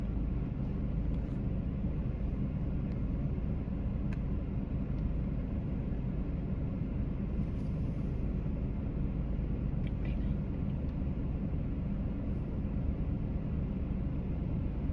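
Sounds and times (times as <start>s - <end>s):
low vehicle rumble: 0.0s - 14.9s.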